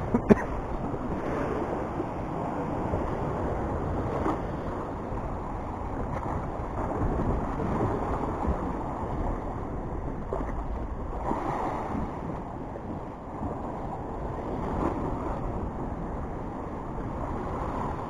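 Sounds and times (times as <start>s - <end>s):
sea washing against rocks: 0.0s - 18.0s
wind buffeting microphone: 0.0s - 18.0s.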